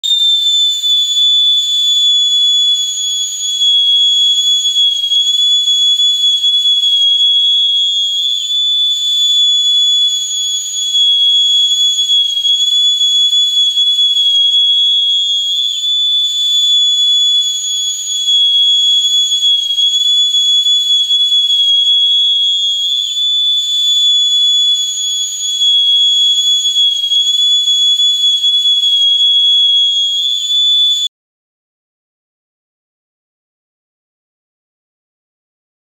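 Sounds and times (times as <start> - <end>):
high-pitched whistling tone: 0.0 - 31.1.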